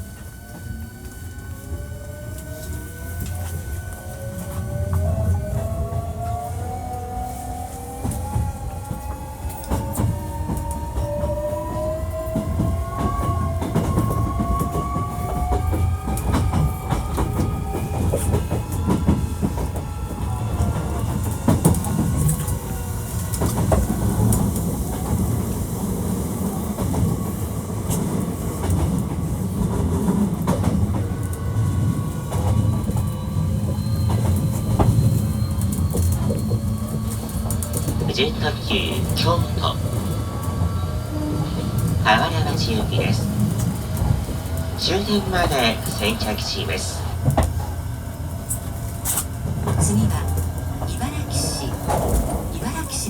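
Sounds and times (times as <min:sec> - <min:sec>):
wheels rumbling on rails: 0:00.0 - 0:53.0.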